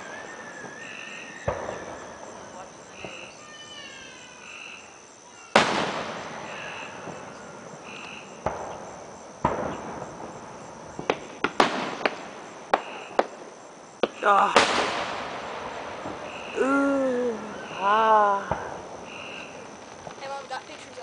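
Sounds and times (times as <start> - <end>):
fireworks sharp cracks: 0.0 - 4.1, 5.4 - 21.0
fireworks bangs: 0.0 - 4.4, 5.3 - 21.0
faint insects chirping: 0.0 - 21.0.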